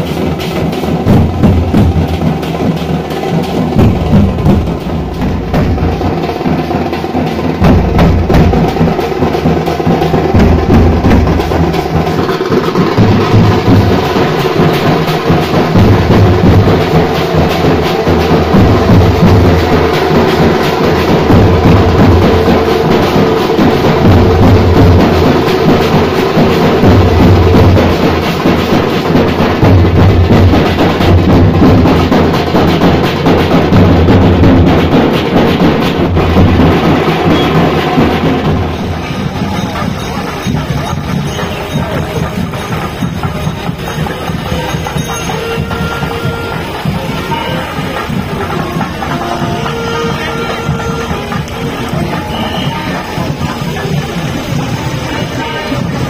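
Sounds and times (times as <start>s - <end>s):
loud drum-led music: 0.0s - 56.0s.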